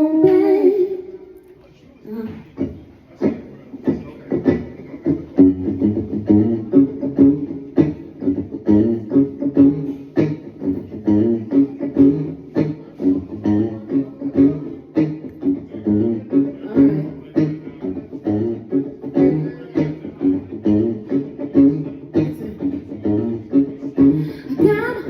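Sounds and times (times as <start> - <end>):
plucked guitar: 0.0 - 25.0
bass guitar: 2.1 - 25.0.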